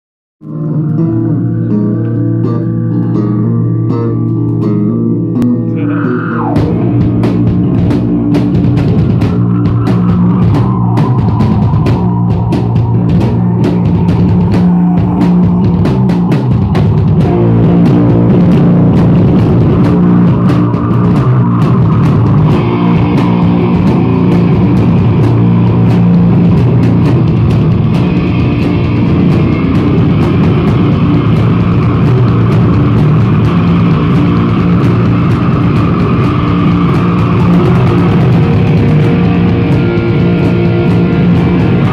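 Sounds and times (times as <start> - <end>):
rock band playing live: 0.4 - 41.9
drum kit beating: 5.4 - 41.9.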